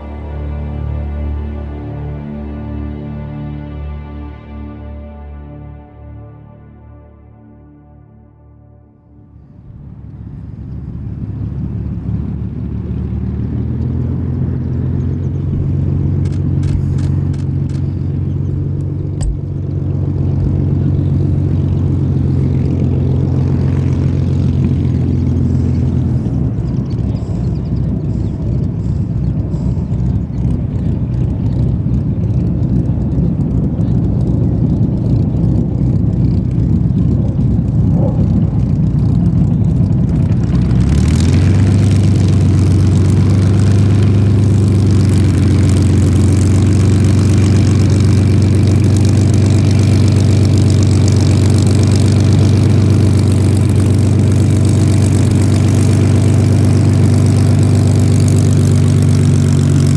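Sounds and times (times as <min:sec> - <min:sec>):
aircraft engine droning: 0:00.0 - 0:07.4, 0:08.6 - 0:59.9.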